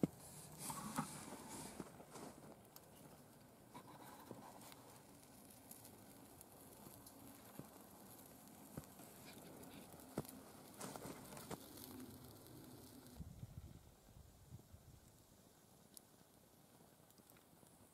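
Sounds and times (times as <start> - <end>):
fire crackling and popping: 0.0 - 17.9
soft fire hiss: 0.0 - 17.9.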